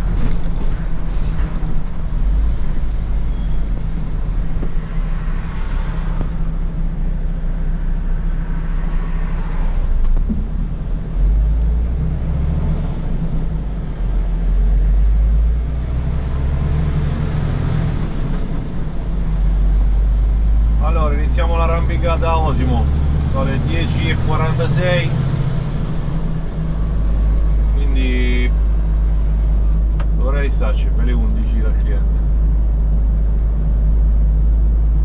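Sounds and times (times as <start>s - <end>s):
diesel engine humming: 0.0s - 35.0s
road and tyre noise: 0.0s - 35.0s.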